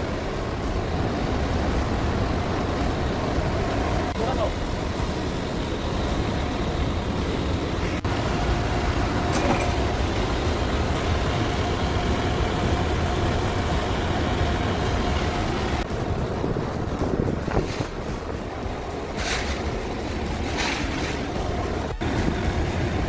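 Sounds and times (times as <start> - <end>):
large exhaust fan droning: 0.0 - 23.0.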